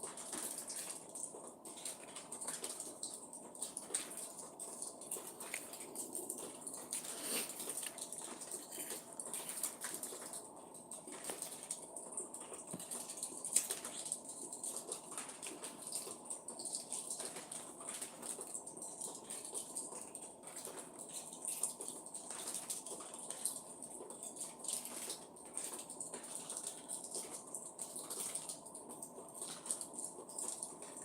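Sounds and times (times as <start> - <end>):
light ticks and rustles: 0.0 - 31.0.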